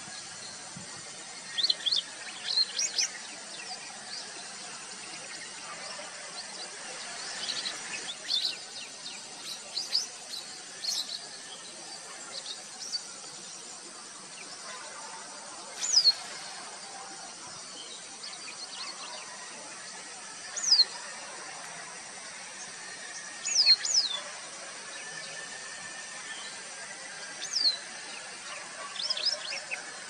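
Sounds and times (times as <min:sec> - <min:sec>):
faint insect hum: 0:00.0 - 0:30.0.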